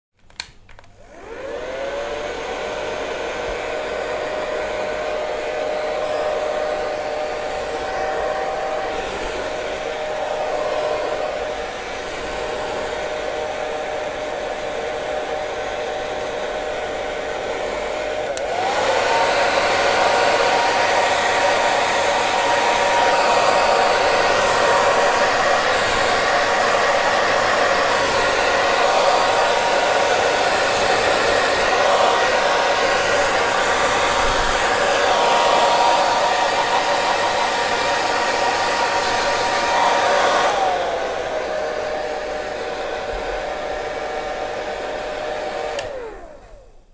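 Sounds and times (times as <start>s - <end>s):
hair dryer running: 0.4s - 46.9s.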